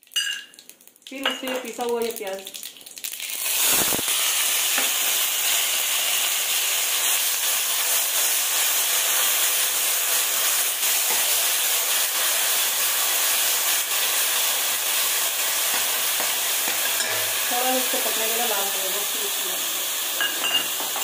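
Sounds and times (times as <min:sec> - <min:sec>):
onion paste sizzling in oil: 0:00.0 - 0:21.0.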